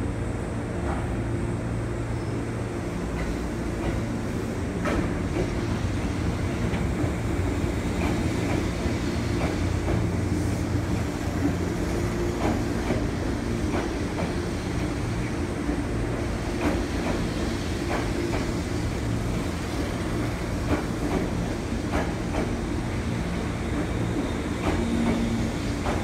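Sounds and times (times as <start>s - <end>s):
electric train rumble and hum: 0.0s - 26.0s.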